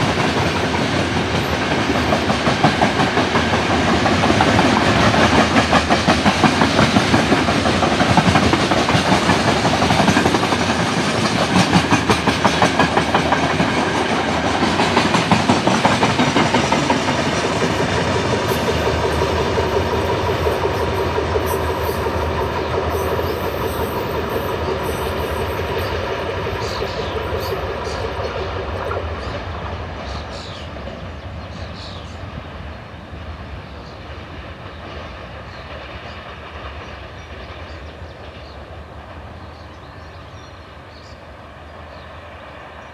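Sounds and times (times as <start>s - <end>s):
train wheels clicking on rails: 0.0s - 42.9s.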